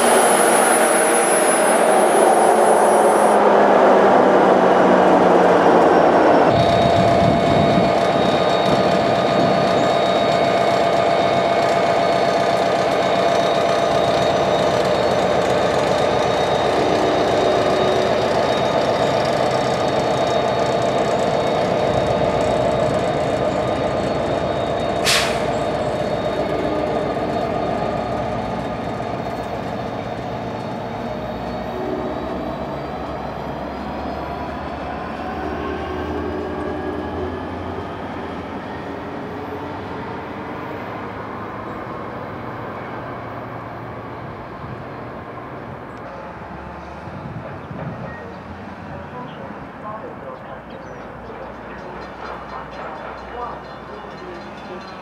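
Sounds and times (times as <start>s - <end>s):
locomotive engine whining: 0.0s - 46.0s.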